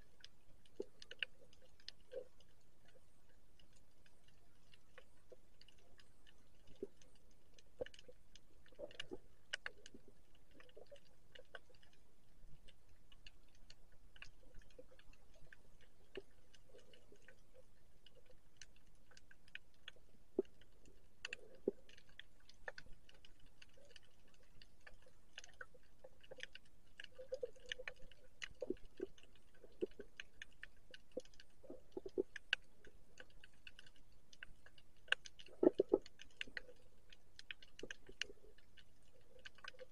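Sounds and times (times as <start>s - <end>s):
underwater clicks and crackles: 0.0s - 39.9s.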